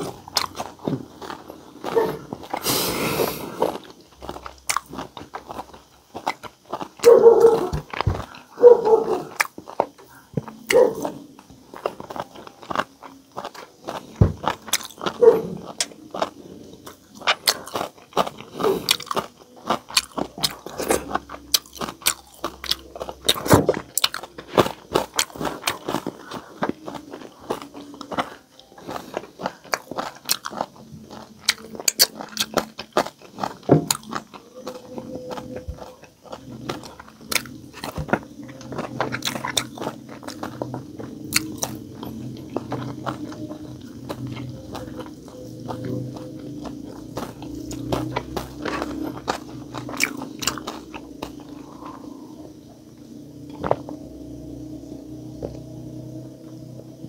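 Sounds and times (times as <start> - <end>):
chewing and crunching crispy food: 0.0 - 57.0.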